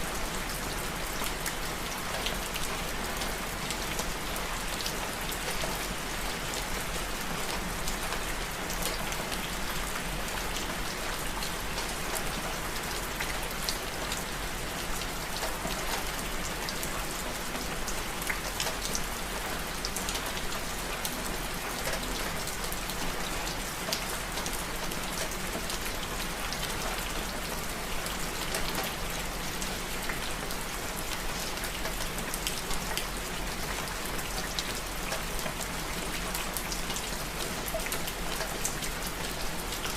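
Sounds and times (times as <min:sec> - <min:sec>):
rain on hard surface: 0:00.0 - 0:39.9.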